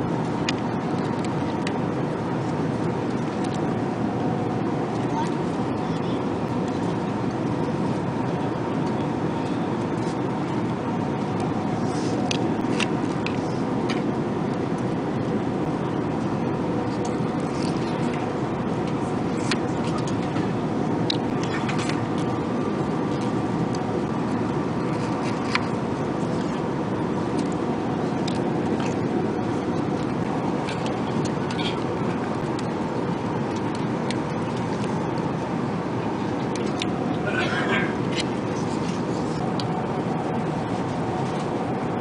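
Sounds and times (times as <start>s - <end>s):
engine and airflow roar: 0.0s - 42.0s
faint steady hum: 0.0s - 42.0s.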